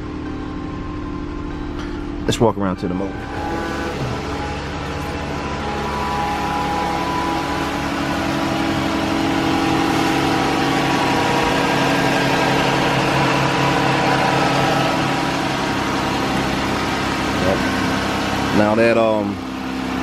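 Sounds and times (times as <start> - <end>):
car engine idling: 0.0 - 20.0
engine ticking: 0.0 - 20.0.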